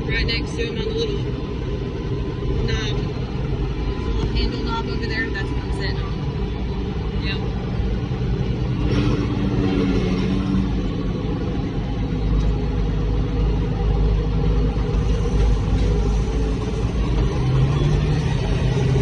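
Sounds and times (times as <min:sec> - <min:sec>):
tractor diesel engine rumble: 0:00.0 - 0:19.0.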